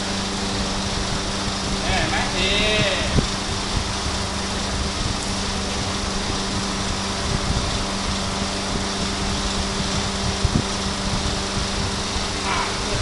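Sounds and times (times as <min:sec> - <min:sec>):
machinery drone with fan whoosh: 0:00.0 - 0:13.0.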